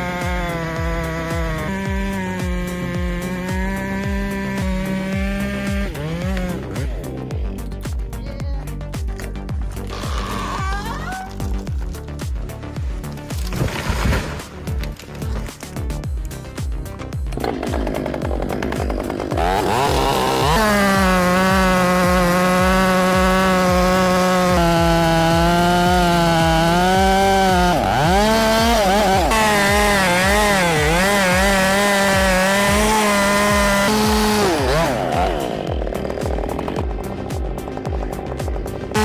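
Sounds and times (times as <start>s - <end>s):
chainsaw revving: 0.0s - 8.0s, 9.7s - 12.0s, 16.9s - 39.0s
music with steady beat: 0.0s - 13.5s, 14.5s - 39.0s.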